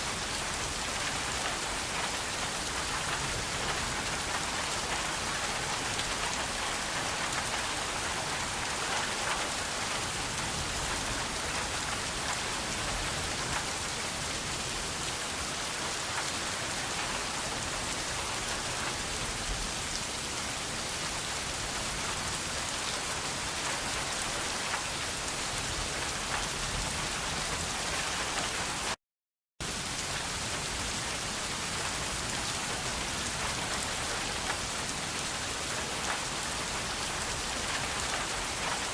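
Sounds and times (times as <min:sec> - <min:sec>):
steady rain falling: 0:00.0 - 0:29.0, 0:29.6 - 0:38.9.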